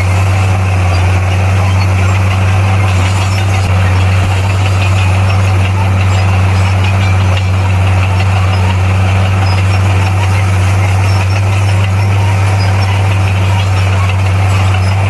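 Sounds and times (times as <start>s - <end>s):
bulldozer diesel engine humming: 0.0s - 15.0s.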